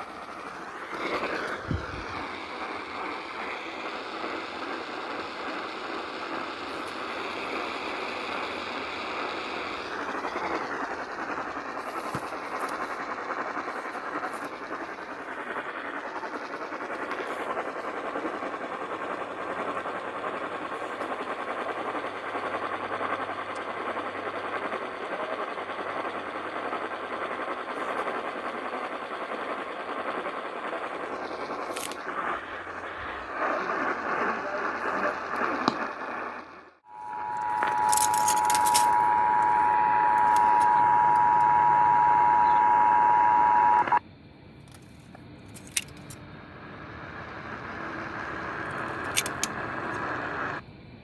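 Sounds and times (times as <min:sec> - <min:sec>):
radio static hiss: 0:00.0 - 0:44.0, 0:45.5 - 0:50.6.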